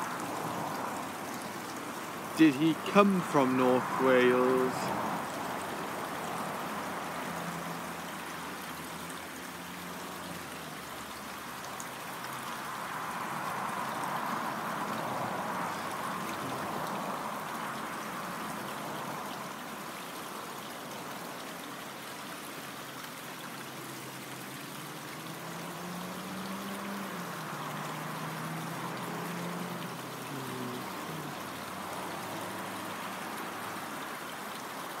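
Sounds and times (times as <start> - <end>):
brook flowing water: 0.0 - 35.0.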